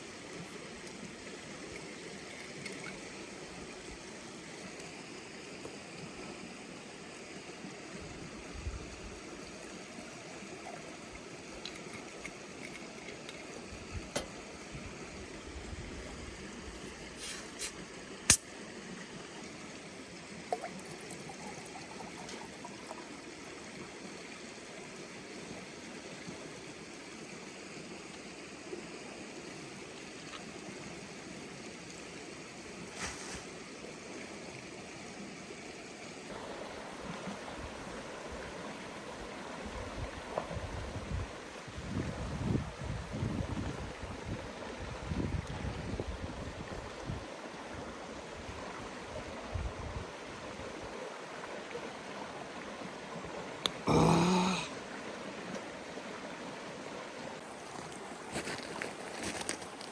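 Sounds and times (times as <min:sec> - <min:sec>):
river running: 0:00.0 - 0:41.8, 0:43.6 - 0:59.9.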